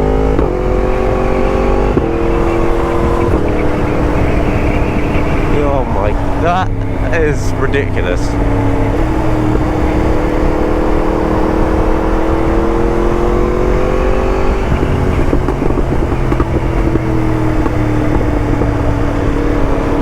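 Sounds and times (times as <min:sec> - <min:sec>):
exhaust crackles and pops: 0:00.0 - 0:20.0
motorcycle engine revving: 0:00.0 - 0:20.0.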